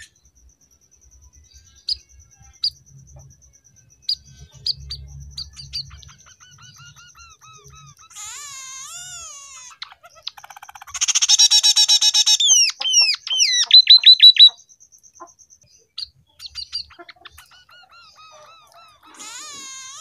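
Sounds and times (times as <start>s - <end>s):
bird singing trills and whistles: 0.0s - 20.0s.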